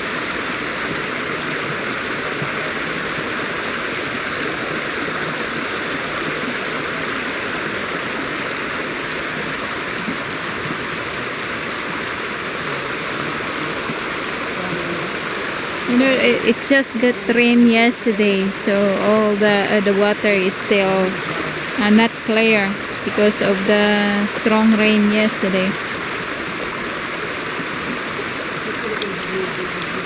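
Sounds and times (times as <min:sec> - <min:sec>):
river water rushing over rocks: 0:00.0 - 0:30.0.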